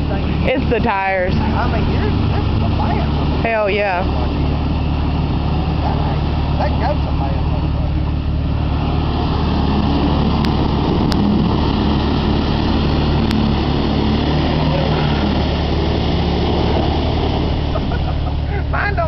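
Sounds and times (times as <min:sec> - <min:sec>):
engine revving under load: 0:00.0 - 0:19.0
vehicle driving through mud: 0:00.0 - 0:19.0.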